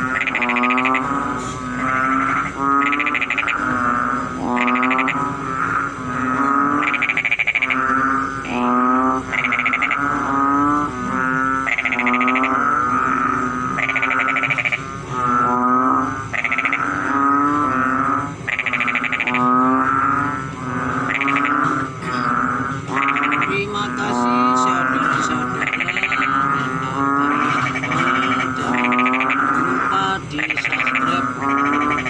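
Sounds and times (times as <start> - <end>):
frogs croaking: 0.0 - 32.0.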